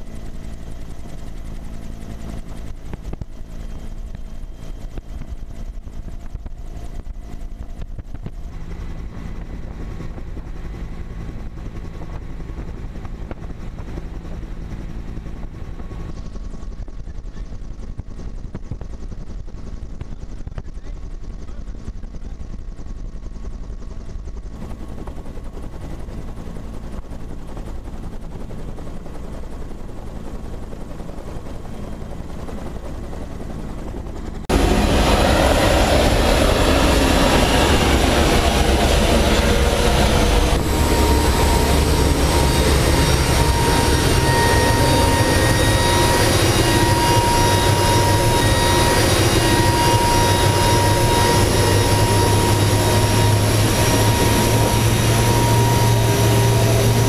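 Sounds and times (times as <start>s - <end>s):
helicopter hovering close by: 0.0s - 57.0s
muffled helicopter noise inside cabin: 0.0s - 57.0s
turboprop engines whining: 0.0s - 57.0s.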